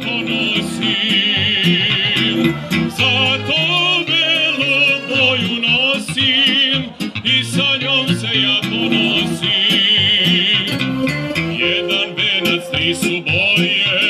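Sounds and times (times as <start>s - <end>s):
folk band on accordion and keyboards: 0.0s - 14.0s.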